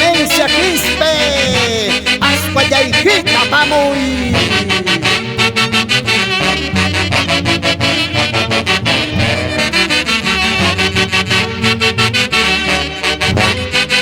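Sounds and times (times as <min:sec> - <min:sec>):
saxophone-led horn section music: 0:00.0 - 0:14.0.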